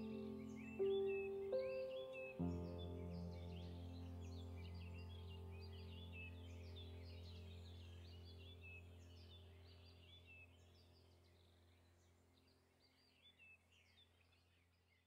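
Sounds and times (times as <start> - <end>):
birds chirping: 0.0 - 14.1.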